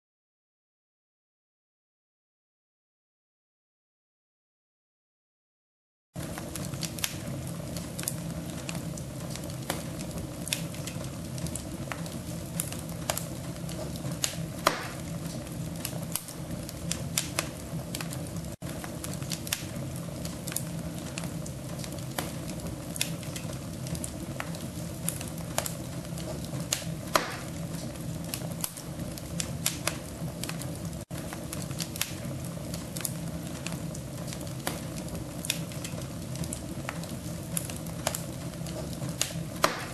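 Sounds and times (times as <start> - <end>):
wood fire crackling in a stove: 6.2 - 39.9.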